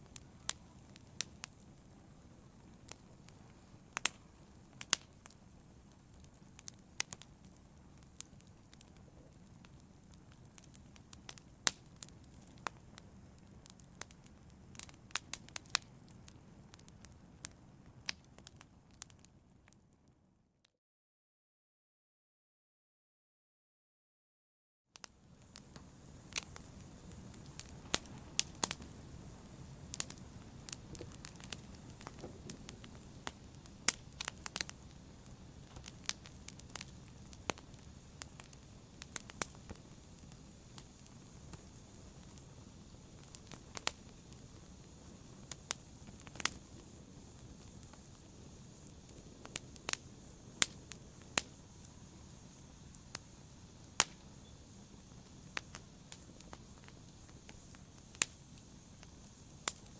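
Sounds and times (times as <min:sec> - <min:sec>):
fire crackling and popping: 0:00.0 - 0:20.0, 0:25.0 - 0:59.9
logs burning in a fireplace: 0:00.0 - 0:20.0, 0:25.0 - 0:59.9.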